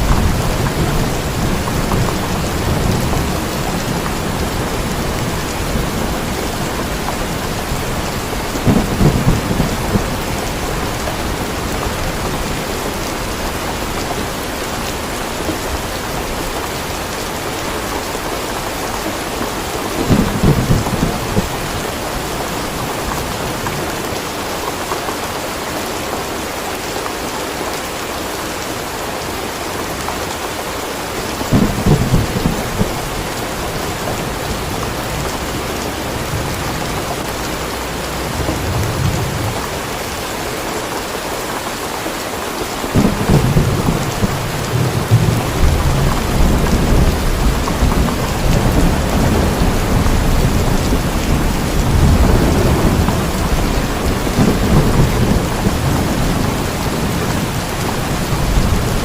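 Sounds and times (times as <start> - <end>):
thunder rumbling: 0.0 - 24.2, 31.2 - 40.2, 42.9 - 59.0
steady rain: 0.0 - 59.0.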